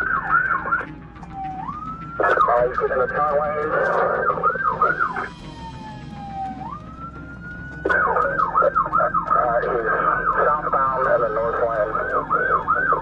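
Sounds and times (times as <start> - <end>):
police siren yelping and wailing: 0.0 - 13.0.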